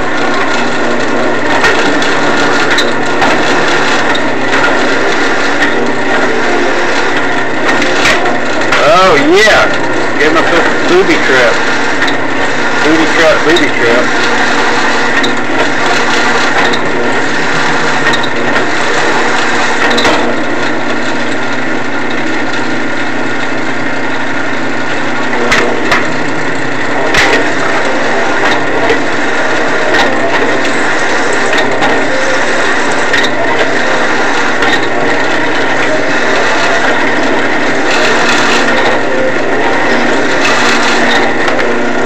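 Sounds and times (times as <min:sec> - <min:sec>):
drill bit chattering through metal: 0:00.0 - 0:42.0
drill press whirring: 0:00.0 - 0:42.0.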